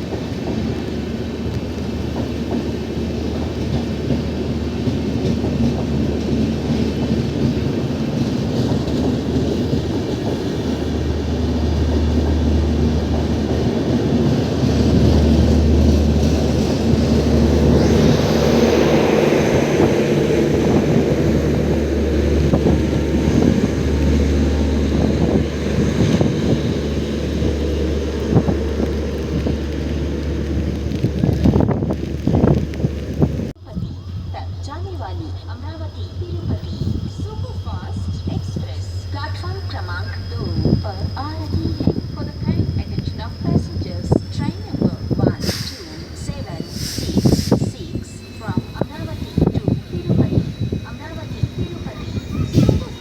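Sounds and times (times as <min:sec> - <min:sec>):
train wheels clicking on track: 0:00.0 - 0:33.4, 0:35.2 - 0:53.0
locomotive engine rumble: 0:00.0 - 0:53.0.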